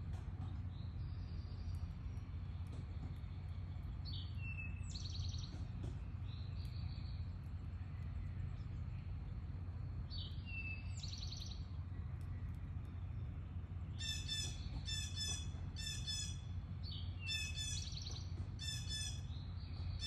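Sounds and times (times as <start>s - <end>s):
low background rumble: 0.0s - 20.0s
songbird singing: 0.0s - 20.0s.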